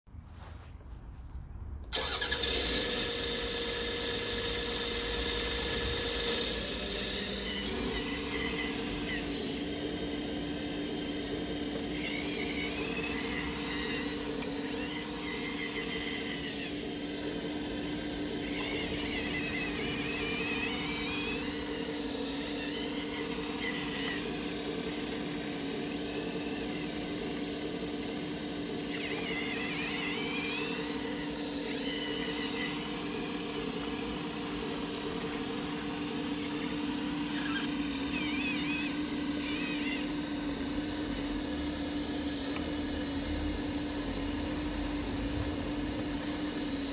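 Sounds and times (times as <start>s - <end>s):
electric motors whining: 1.2s - 46.9s.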